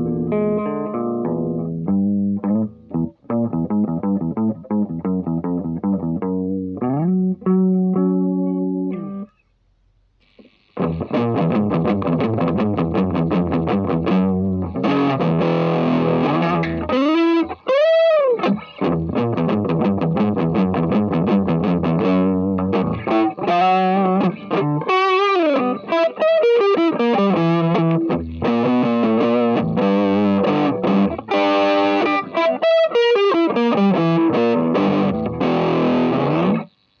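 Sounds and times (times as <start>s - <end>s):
distorted electric guitar lead: 0.0s - 9.4s, 10.2s - 37.0s.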